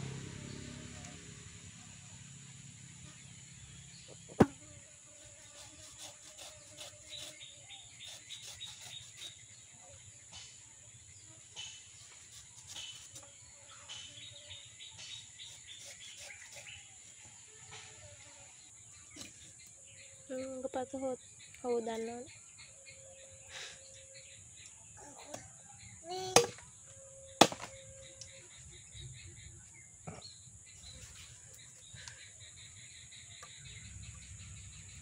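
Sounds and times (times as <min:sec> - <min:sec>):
insects buzzing: 0:00.0 - 0:35.0
birds chirping: 0:06.6 - 0:35.0.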